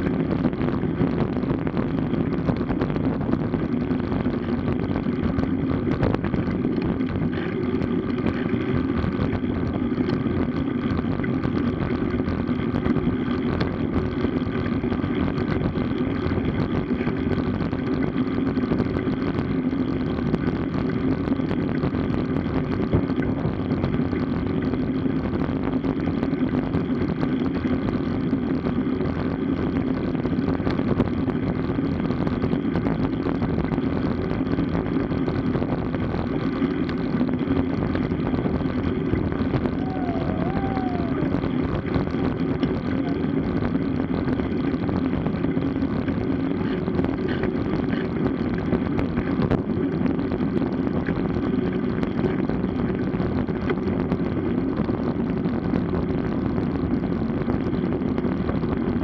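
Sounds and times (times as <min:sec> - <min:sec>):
wind and bicycle road noise: 0:00.0 - 0:59.0.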